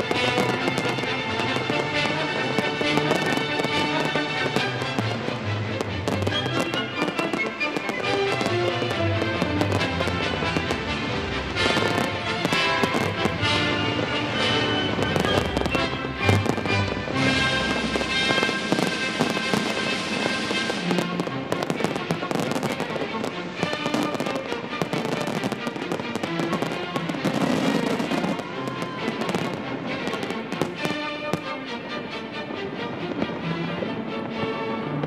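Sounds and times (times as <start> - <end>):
fireworks bursting and crackling: 0.0 - 35.0
music with sustained notes: 0.0 - 35.0.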